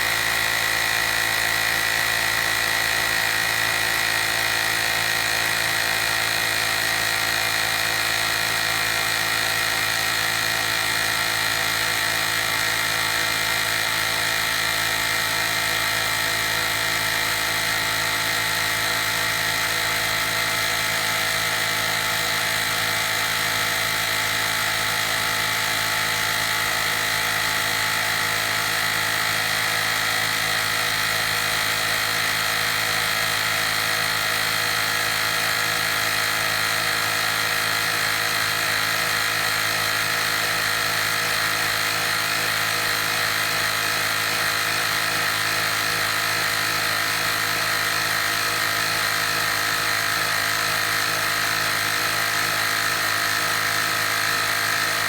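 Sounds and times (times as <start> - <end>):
tyre inflator compressor whine: 0.0 - 55.0.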